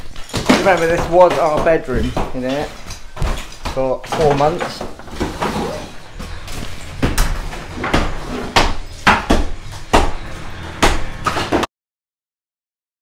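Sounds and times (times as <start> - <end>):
plaster and stone crashing: 0.0 - 11.7.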